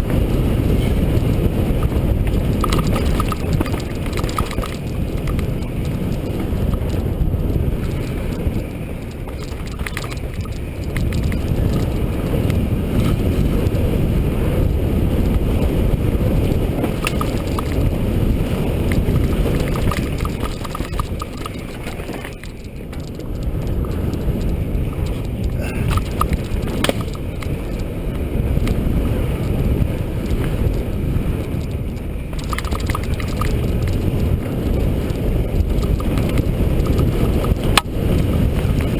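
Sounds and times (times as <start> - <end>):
bike clicks and rattles: 0.0 - 38.9
bike tyres rumbling on dirt: 0.0 - 38.9
wind on microphone: 0.0 - 38.9.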